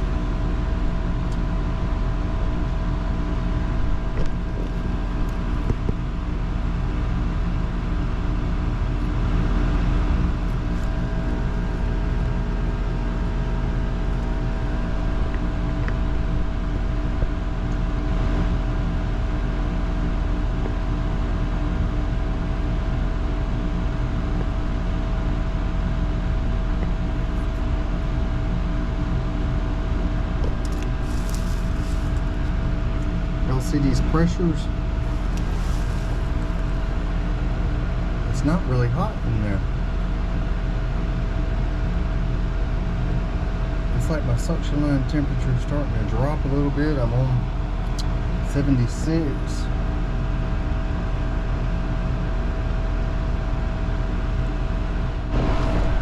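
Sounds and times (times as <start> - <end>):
air conditioner compressor hum: 0.0 - 56.0.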